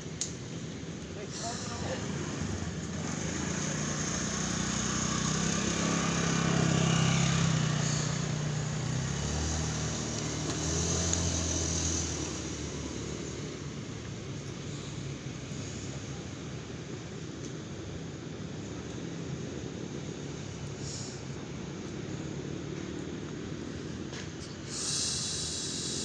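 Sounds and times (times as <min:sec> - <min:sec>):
vehicles passing on road: 0:00.0 - 0:26.0.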